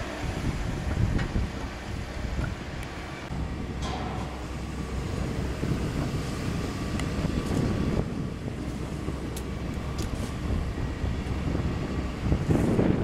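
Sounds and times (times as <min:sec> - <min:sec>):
excavator engine running: 0:00.0 - 0:13.0
wind buffeting microphone: 0:00.0 - 0:13.0.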